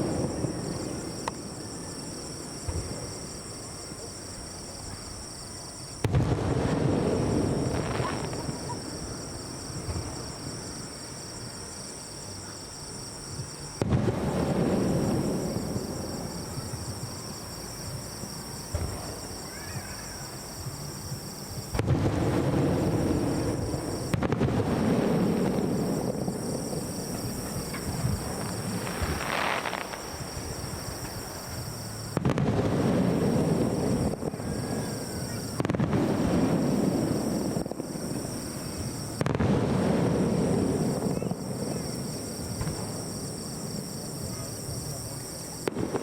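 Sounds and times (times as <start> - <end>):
fireworks booming: 0.0 - 46.0.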